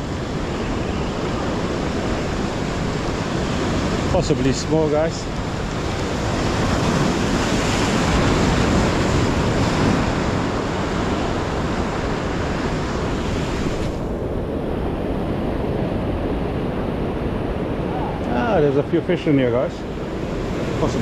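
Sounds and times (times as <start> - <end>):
waves washing on shore: 0.0 - 21.0
wind buffeting microphone: 0.0 - 21.0.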